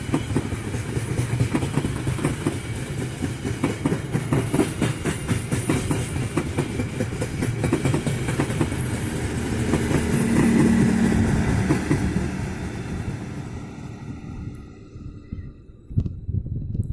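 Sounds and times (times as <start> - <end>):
train wheels clacking on rail joints: 0.0 - 13.6
train low hum: 0.0 - 16.9.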